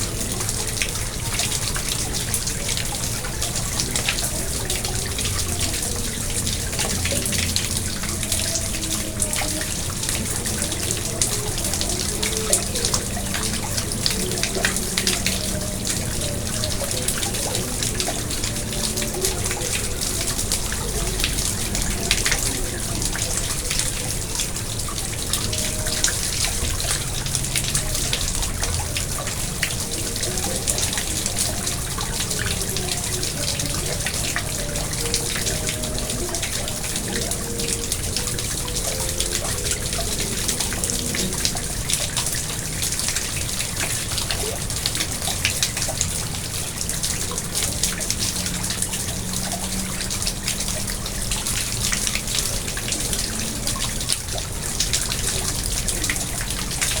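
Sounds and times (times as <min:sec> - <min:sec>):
pond water splashing and trickling: 0:00.0 - 0:57.0.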